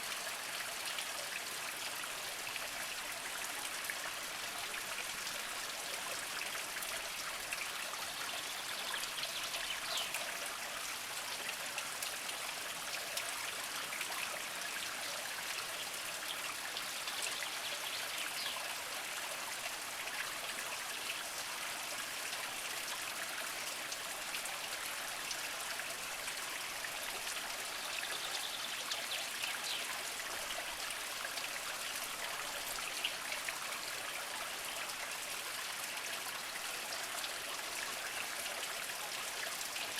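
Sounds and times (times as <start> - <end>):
spring water trickling over rocks: 0.0 - 39.9.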